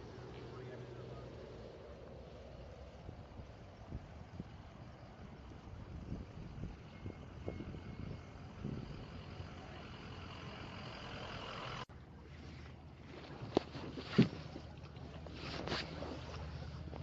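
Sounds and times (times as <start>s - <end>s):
water and wind noise: 0.0s - 10.1s, 11.9s - 17.0s.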